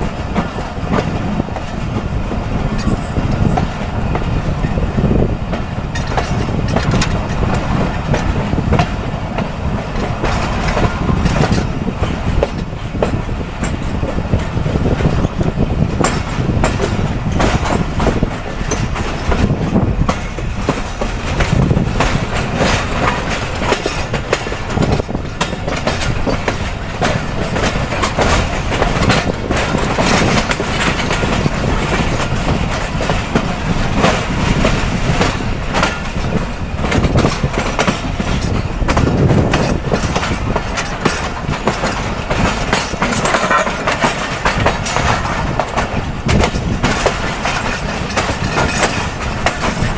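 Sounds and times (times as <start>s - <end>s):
clickety-clack of wheels on rail joints: 0.0s - 49.9s
train wheels rumbling on track: 0.0s - 49.9s.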